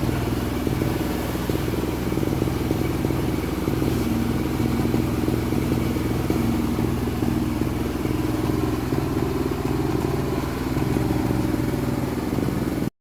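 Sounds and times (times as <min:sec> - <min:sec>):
small engine chugging: 0:00.0 - 0:12.9.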